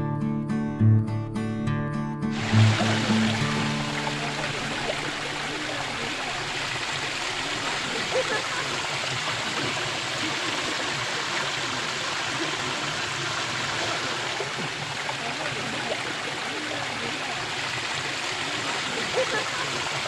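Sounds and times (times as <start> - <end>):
stream flowing over rocks: 2.3 - 20.0.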